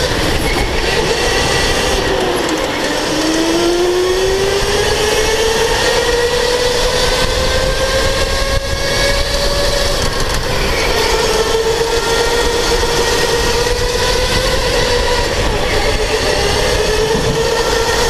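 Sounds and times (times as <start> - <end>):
electric go-kart motor whining: 0.0 - 18.0
low rumble of kart on track: 0.0 - 18.0.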